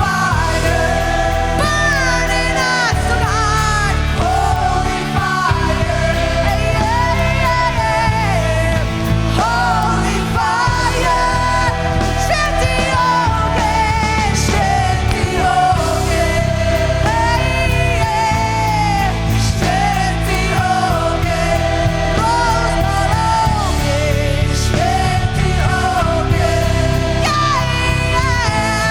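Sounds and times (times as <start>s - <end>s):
person singing long melodic lines: 0.0s - 28.9s
worship band playing rock music: 0.0s - 28.9s.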